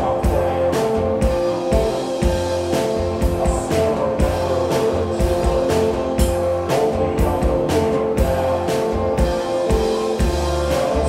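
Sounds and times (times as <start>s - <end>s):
bass guitar: 0.0s - 11.0s
drum kit beat: 0.0s - 11.0s
electric guitars: 0.0s - 11.0s.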